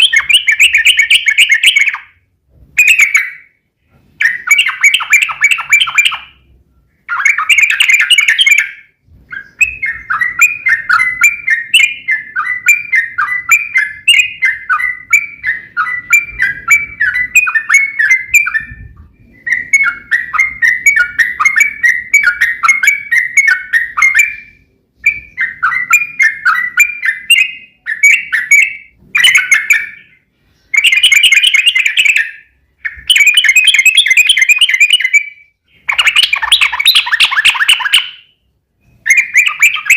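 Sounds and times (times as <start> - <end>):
bird chattering song: 0.0 - 2.2, 2.8 - 3.6, 4.2 - 39.9.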